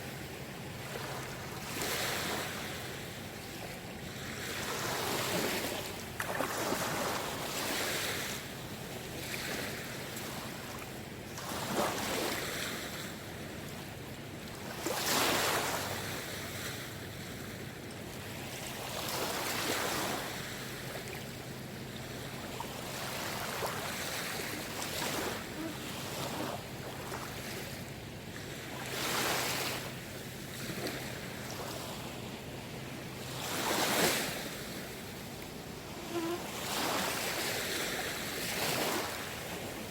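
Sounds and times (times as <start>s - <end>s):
moving water: 0.0s - 39.9s
small waves washing ashore: 0.0s - 39.9s.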